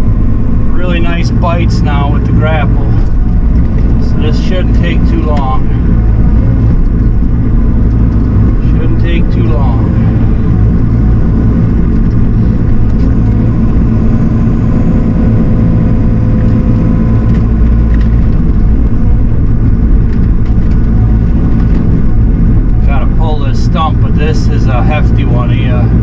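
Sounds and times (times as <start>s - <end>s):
heavy equipment engine droning: 0.0s - 26.0s.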